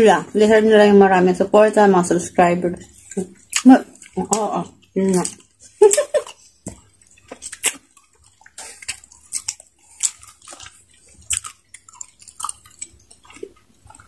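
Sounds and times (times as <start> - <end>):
people chewing melon: 1.8 - 14.0.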